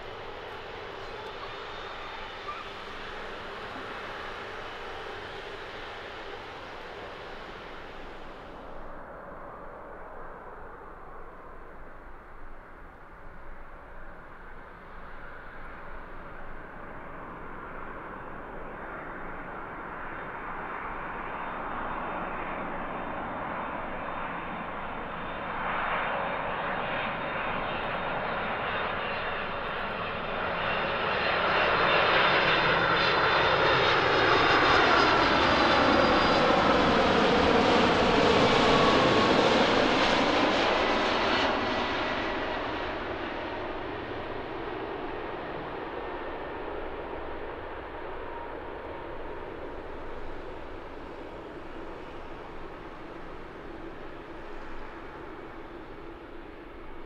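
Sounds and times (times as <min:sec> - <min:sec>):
jet engines roaring: 0:00.0 - 0:09.5, 0:14.6 - 0:57.0.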